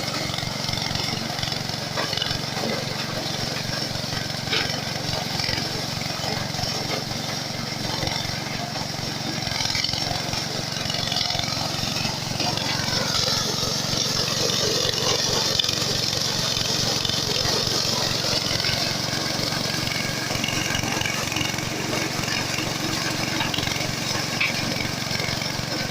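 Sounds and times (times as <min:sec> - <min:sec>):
threshing machine engine drone: 0:00.0 - 0:25.9.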